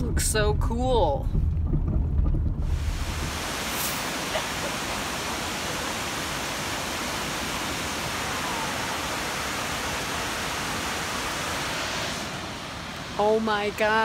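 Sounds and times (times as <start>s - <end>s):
waterfall rushing: 2.8s - 14.0s.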